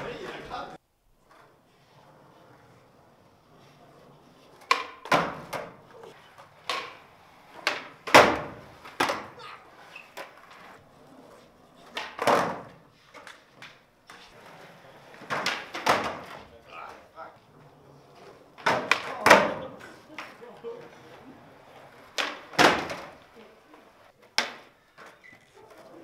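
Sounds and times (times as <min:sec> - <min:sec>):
skateboards clacking on hard floor: 0:01.2 - 0:26.0.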